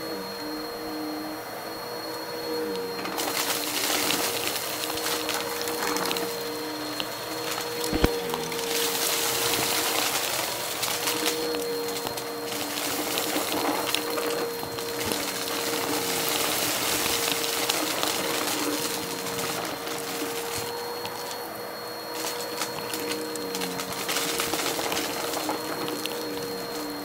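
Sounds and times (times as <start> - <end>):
vacuum cleaner motor hum and whine: 0.0 - 27.0
vacuum picking up crackles: 2.0 - 27.0.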